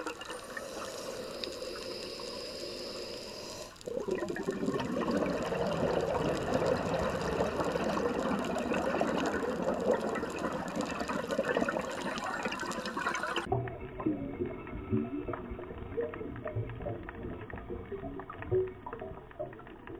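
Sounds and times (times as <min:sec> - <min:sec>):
underwater bubbling: 0:00.0 - 0:19.9.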